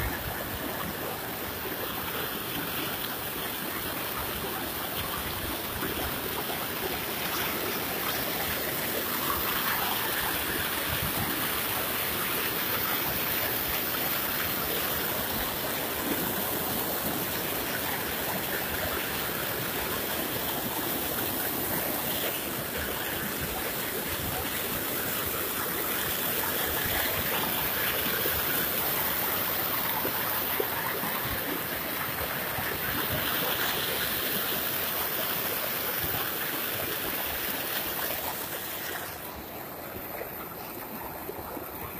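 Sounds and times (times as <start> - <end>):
floodwater rushing: 0.0 - 41.9.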